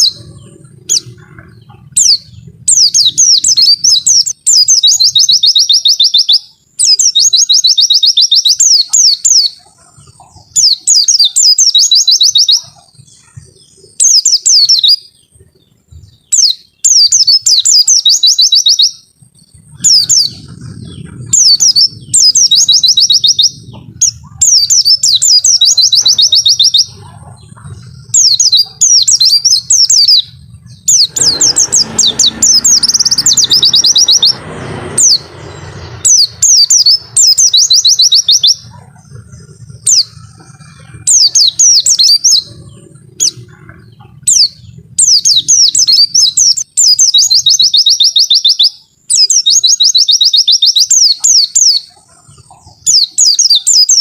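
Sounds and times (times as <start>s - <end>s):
bird singing rapid high chirps: 0.0s - 54.0s.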